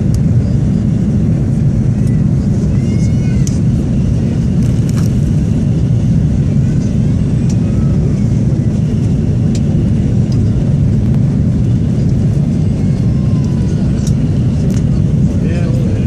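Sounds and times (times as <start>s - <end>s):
airplane engines and airflow rumble: 0.0s - 16.0s.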